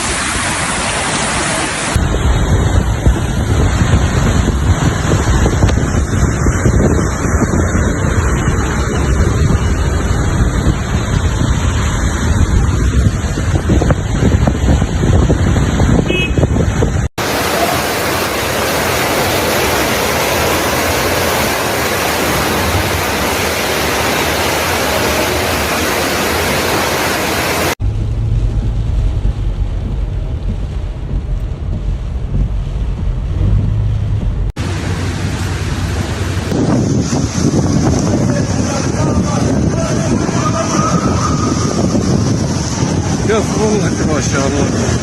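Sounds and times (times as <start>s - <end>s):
running water: 0.0s - 15.6s, 17.2s - 45.0s
heavy rain: 0.0s - 16.0s, 16.6s - 45.0s
wind: 0.0s - 45.0s
deep rumble: 2.0s - 17.4s, 18.1s - 45.0s.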